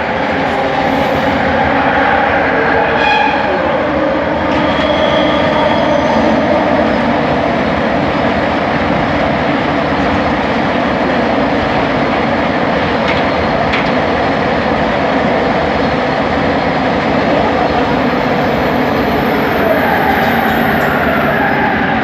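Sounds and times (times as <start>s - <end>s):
train running at speed: 0.0s - 22.0s.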